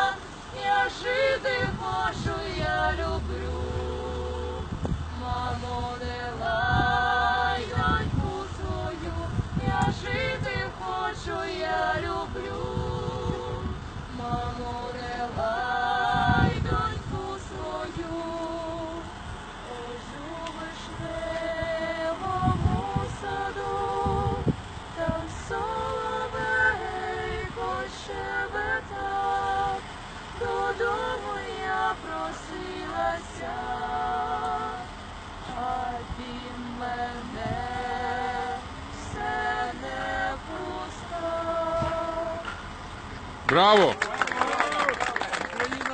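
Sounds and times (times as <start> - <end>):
group singing a lullaby: 0.0 - 42.9.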